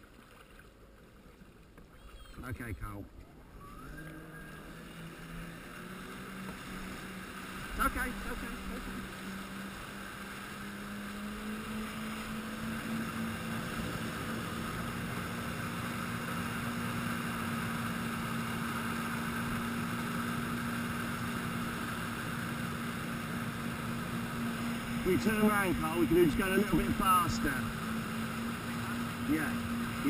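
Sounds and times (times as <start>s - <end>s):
wake water rushing: 0.0s - 30.0s
jet ski engine running: 0.8s - 30.0s.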